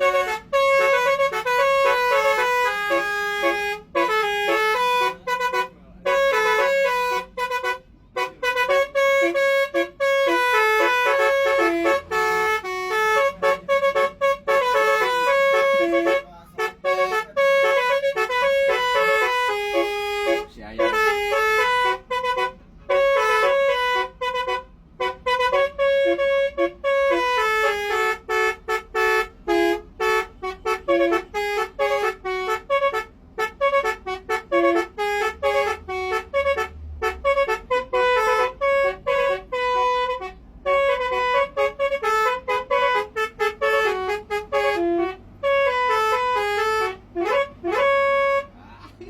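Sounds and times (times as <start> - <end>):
bus horn playing melody: 0.0 - 49.0.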